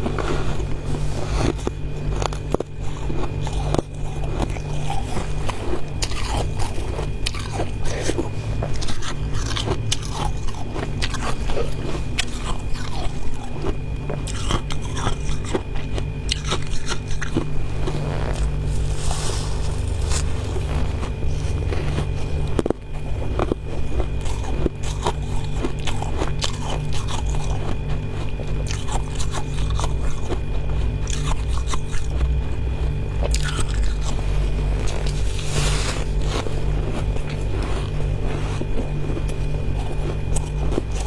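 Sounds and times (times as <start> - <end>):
chewing crunchy frost: 0.0 - 41.0
low hum: 0.0 - 41.0.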